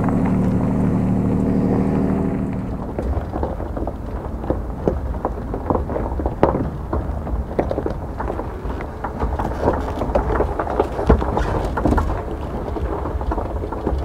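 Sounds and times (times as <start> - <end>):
truck rolling low rumble: 0.0 - 14.0
tyres knocking over stones: 2.5 - 14.0.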